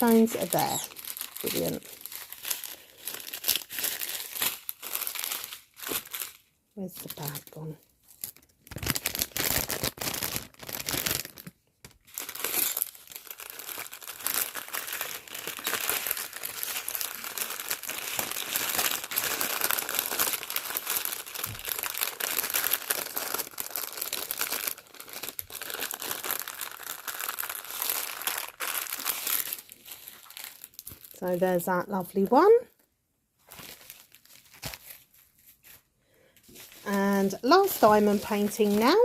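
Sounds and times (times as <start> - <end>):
plastic packaging crinkling: 0.0 - 32.5, 33.4 - 39.0.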